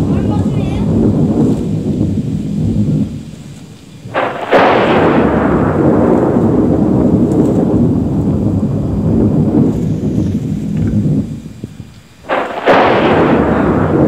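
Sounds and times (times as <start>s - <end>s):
rolling thunder rumble: 0.0s - 14.0s
thunder crack: 0.0s - 14.0s.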